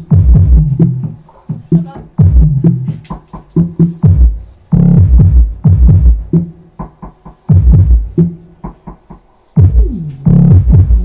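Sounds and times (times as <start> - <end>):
bass-heavy electronic music: 0.0 - 11.0.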